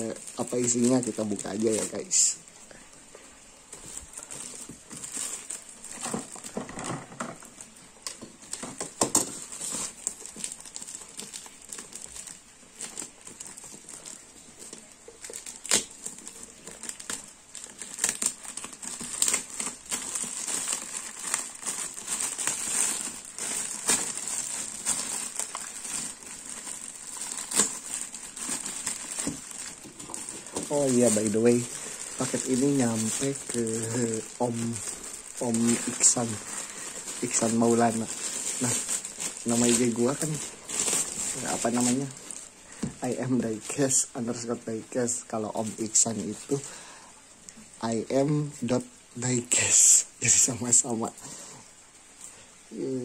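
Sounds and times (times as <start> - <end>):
plastic wrap crinkling: 0.0 - 53.0.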